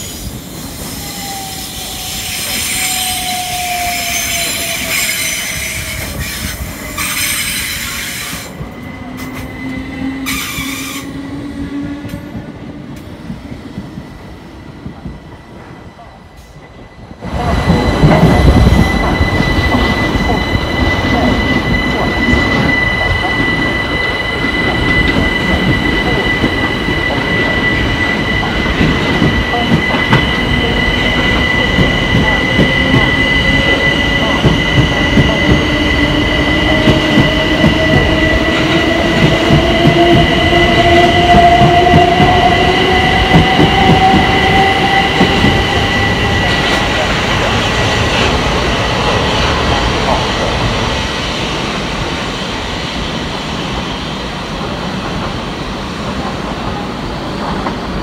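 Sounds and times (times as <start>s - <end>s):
high-pitched train whine: 0.0s - 58.0s.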